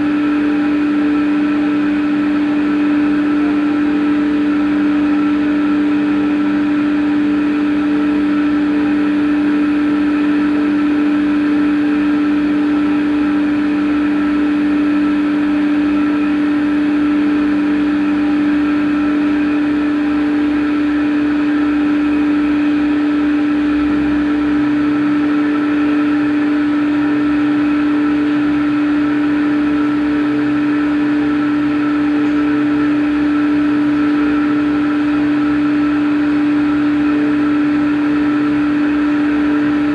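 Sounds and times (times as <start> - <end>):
machine whine: 0.0 - 39.9.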